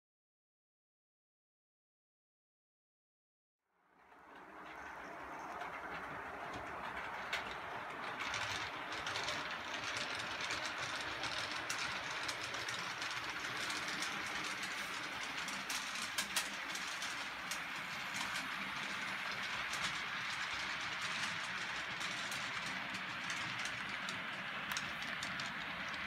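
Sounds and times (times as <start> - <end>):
model train rolling: 3.9 - 26.0
wheels clicking: 4.0 - 26.0.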